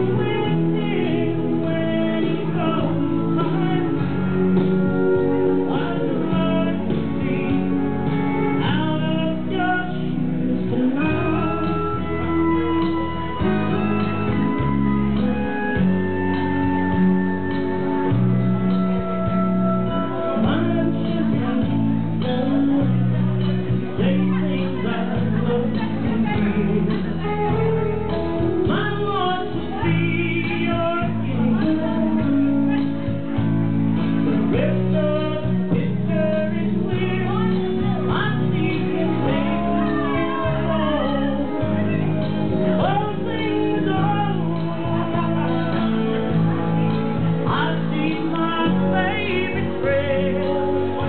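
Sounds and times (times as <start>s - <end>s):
instrumental guitar music: 0.0s - 51.0s
low bass notes: 0.0s - 51.0s
woman singing into microphone: 0.0s - 51.0s.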